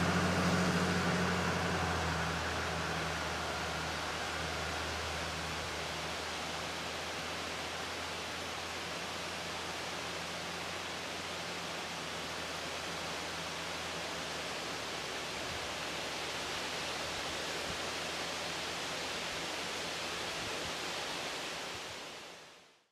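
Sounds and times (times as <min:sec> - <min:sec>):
steady hiss: 0:00.0 - 0:22.9.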